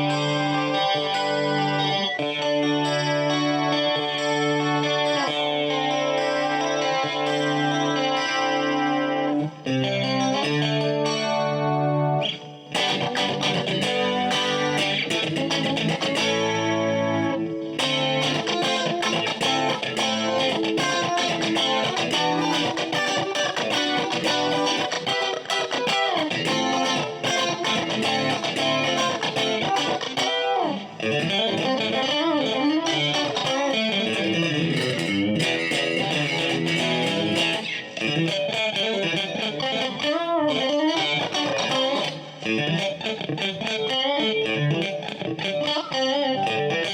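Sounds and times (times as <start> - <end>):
clean electric guitar: 0.0 - 46.9.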